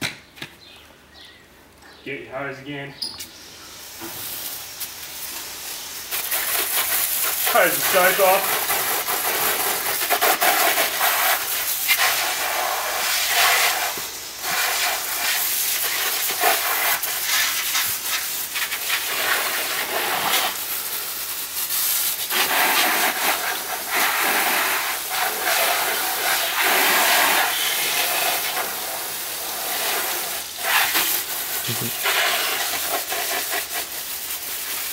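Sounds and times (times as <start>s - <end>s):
garden hose spraying water: 2.4s - 34.9s.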